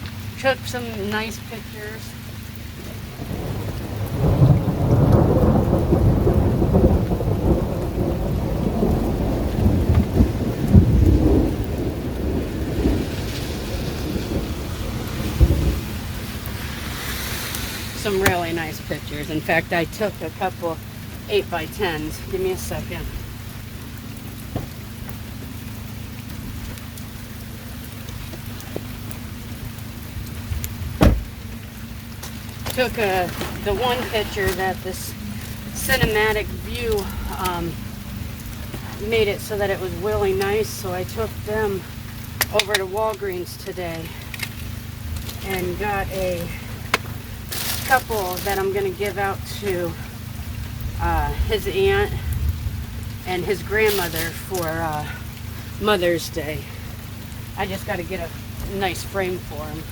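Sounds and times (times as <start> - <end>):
rain falling: 0.0 - 59.9
thunder rumbling: 0.0 - 59.9.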